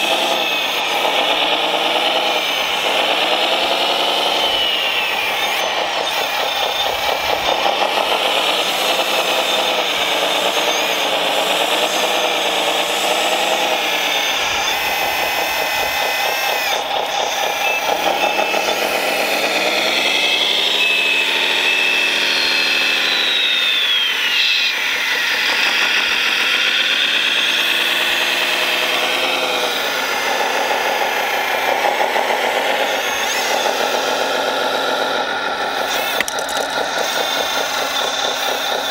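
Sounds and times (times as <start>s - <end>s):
toy electric motors whining: 0.0s - 38.9s.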